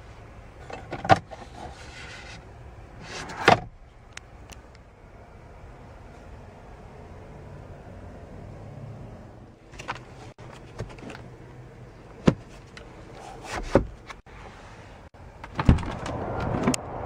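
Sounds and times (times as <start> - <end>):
rush of outside noise: 0.0 - 17.0.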